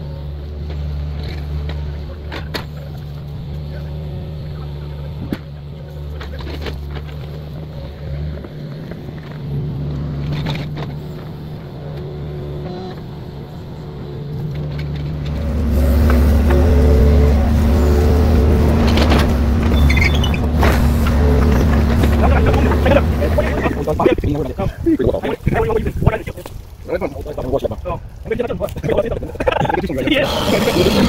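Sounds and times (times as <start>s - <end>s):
diesel engine running: 0.0s - 25.8s, 29.9s - 31.0s.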